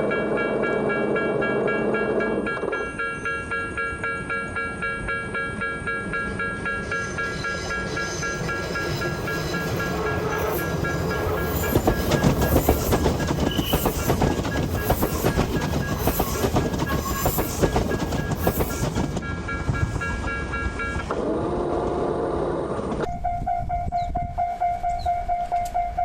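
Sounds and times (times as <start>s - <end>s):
pulsing ringing tone: 0.0s - 21.2s
train wheels clattering on rails: 0.0s - 21.4s.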